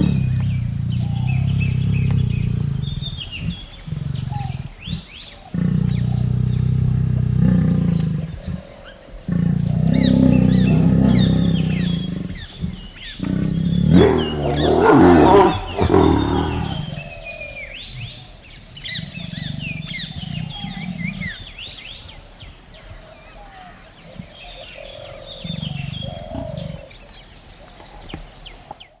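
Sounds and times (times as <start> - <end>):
tiger growling: 0.0 - 28.6
tiger roar: 0.0 - 28.6
birds chirping: 0.0 - 29.0.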